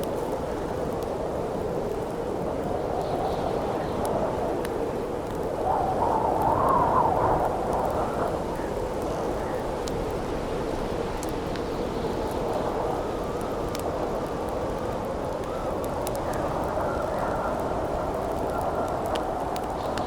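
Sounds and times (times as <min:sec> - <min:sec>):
campfire crackling and popping: 0:00.0 - 0:20.0
wind howling with whistle: 0:00.3 - 0:20.0.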